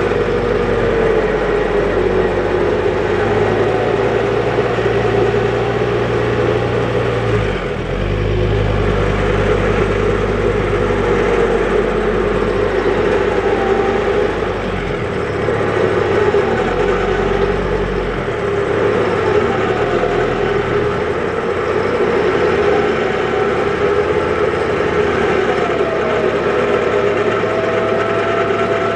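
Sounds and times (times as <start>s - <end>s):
engine running at low revs: 0.0s - 28.9s
steady mid-pitched whine: 0.0s - 28.9s.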